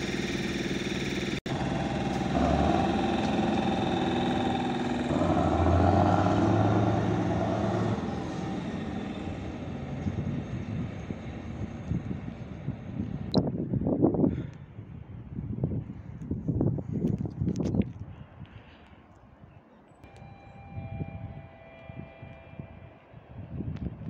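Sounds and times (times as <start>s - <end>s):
diesel locomotive engine: 0.0s - 16.1s, 19.7s - 24.0s.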